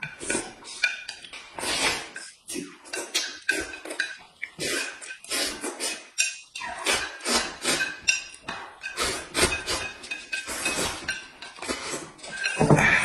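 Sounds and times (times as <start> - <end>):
chopsticks scraping a plate: 0.0 - 13.0
eating noises: 0.0 - 13.0.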